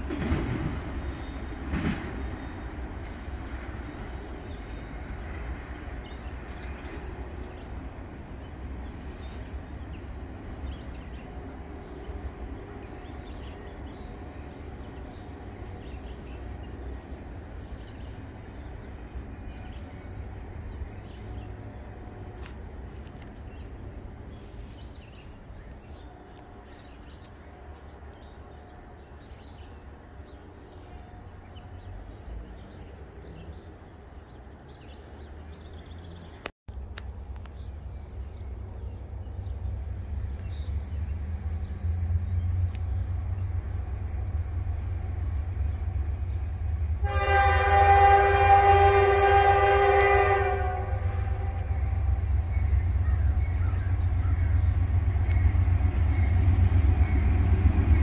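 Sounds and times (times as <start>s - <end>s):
birds chirping: 0.0s - 58.0s
freight train rumble: 0.0s - 58.0s.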